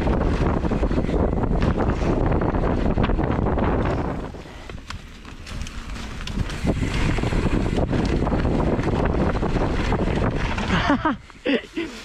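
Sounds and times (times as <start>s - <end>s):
low rumble: 0.0s - 11.3s
wind buffeting microphone: 0.0s - 11.4s.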